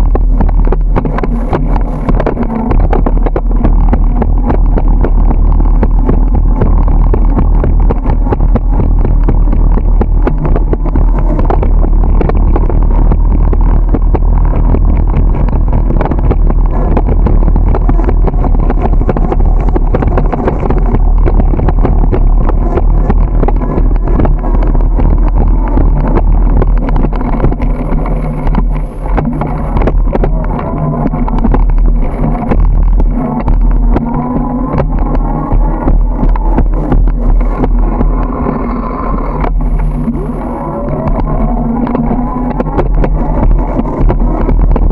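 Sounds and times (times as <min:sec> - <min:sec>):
bicycle clicks and rattles: 0:00.0 - 0:40.1
wind buffeting microphone: 0:00.0 - 0:44.9.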